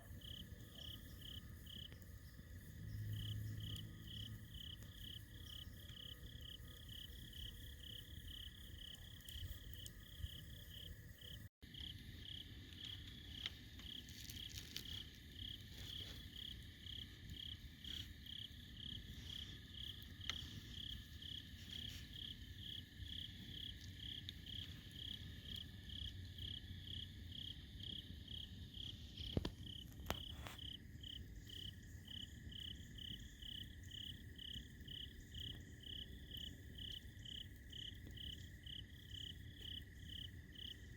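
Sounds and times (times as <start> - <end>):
campfire crackling and popping: 0.0 - 28.1, 29.1 - 40.9.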